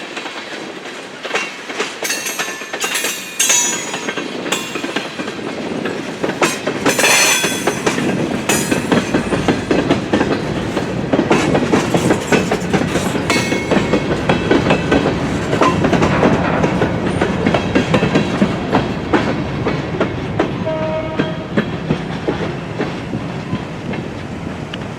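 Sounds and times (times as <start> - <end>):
train wheels clicking over rail joints: 0.0 - 24.9.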